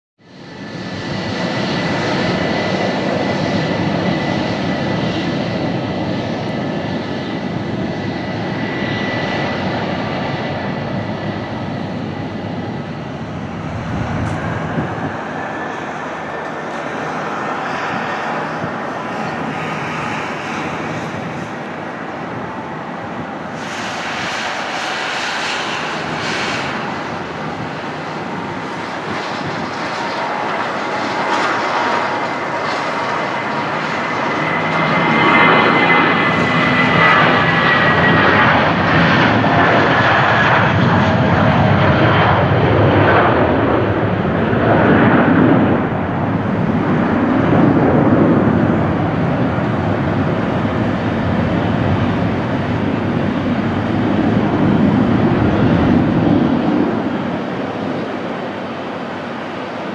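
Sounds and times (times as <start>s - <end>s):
jet engines running: 0.2s - 59.9s.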